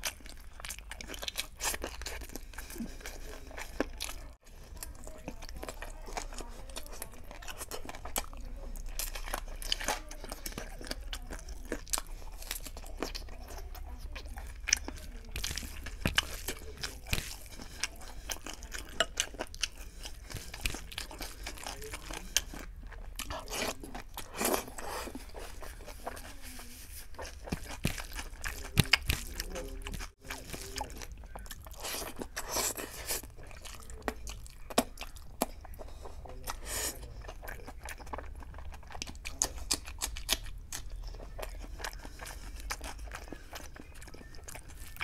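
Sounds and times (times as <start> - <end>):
wet chewing: 0.0 - 45.0.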